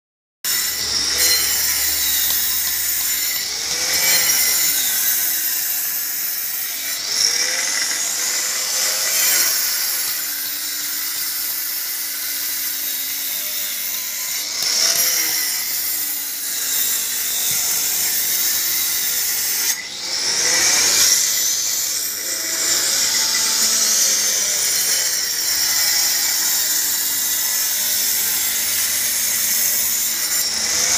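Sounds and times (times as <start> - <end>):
angle grinder cutting stone: 0.5 - 30.9.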